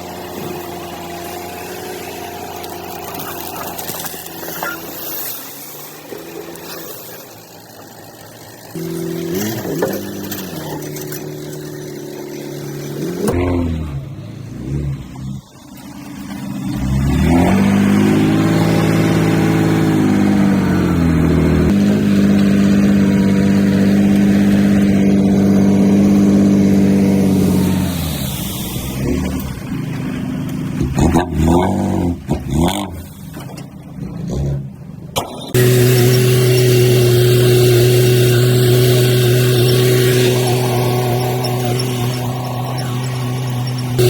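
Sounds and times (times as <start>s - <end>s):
heavy diesel engine revving: 0.0s - 33.2s, 35.5s - 44.0s.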